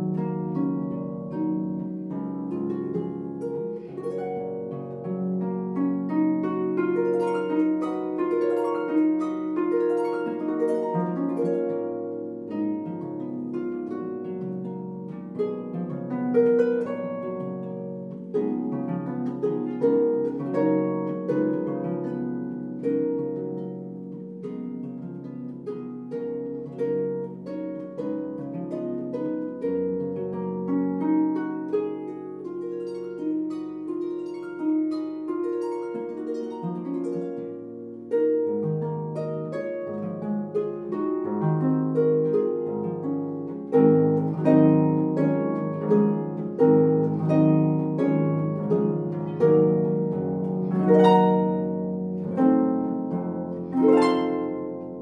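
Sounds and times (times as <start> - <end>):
harp playing plucked notes: 0.0 - 55.0.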